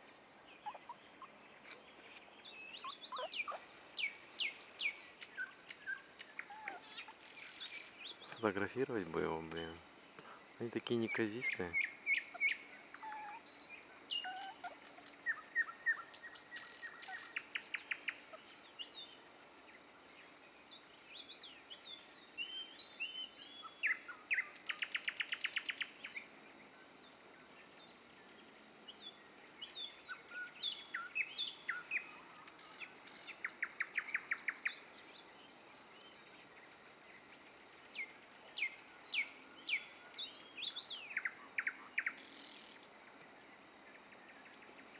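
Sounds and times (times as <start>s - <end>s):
nightingale singing: 0.0s - 19.8s, 20.5s - 43.1s.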